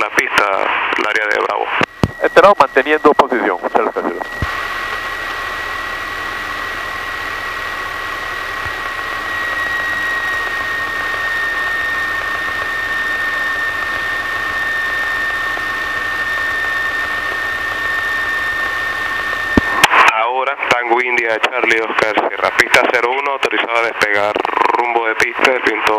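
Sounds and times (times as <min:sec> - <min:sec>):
aircraft engine and propeller droning: 0:00.0 - 0:25.9.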